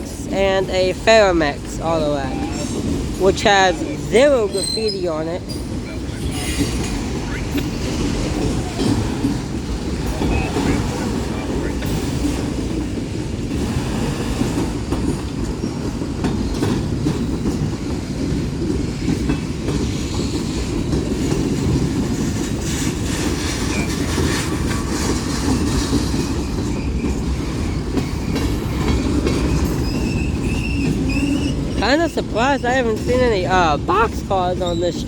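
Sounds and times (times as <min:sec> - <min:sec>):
freight train rumbling past: 0:00.0 - 0:35.0
wheels clacking over rail joints: 0:00.0 - 0:35.0.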